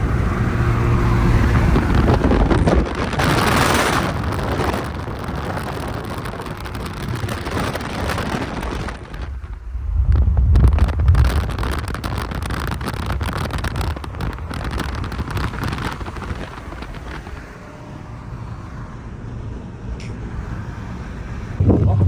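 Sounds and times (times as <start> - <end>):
wind buffeting microphone: 0.0 - 18.7, 19.8 - 22.0
car engine running: 0.0 - 22.0.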